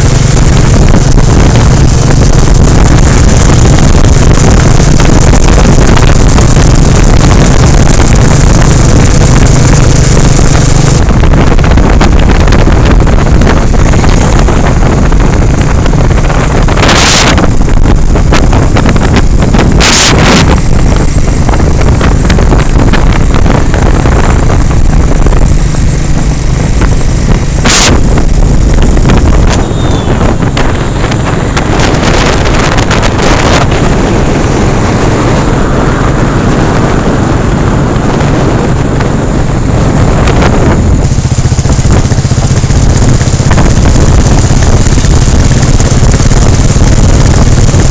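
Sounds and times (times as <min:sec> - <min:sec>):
motorcycle engine running: 0:00.0 - 0:47.9
wind noise on microphone: 0:00.0 - 0:47.9.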